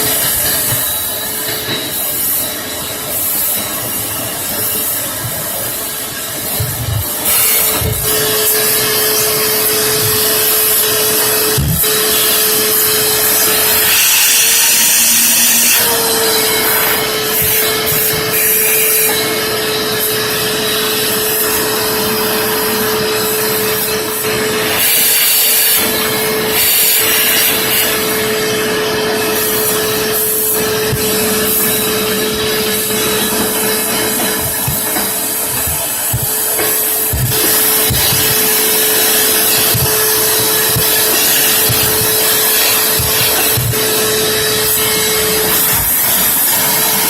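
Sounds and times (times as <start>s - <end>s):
vacuum cleaner motor whining: 0.0s - 47.0s.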